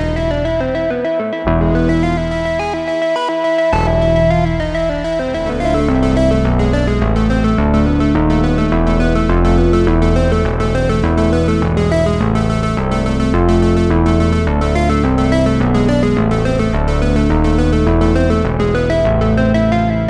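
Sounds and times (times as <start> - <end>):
background music with steady beat: 0.0 - 20.0.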